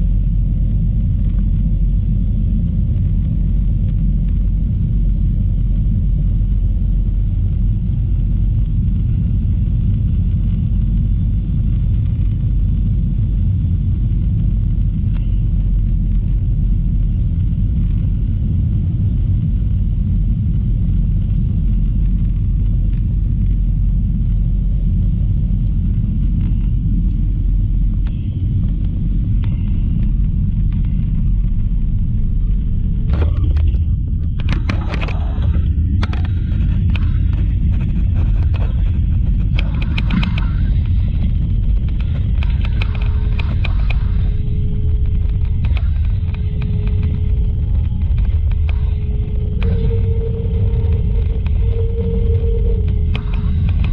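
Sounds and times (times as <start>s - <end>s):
airplane cabin engine rumble: 0.0s - 53.9s.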